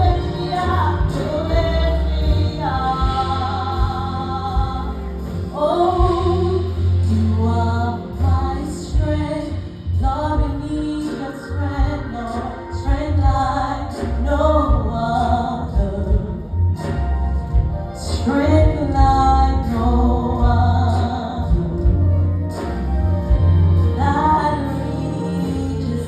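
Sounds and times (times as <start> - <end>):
woman singing gospel: 0.0 - 17.0, 17.9 - 26.0
music with deep bass line: 0.0 - 26.0.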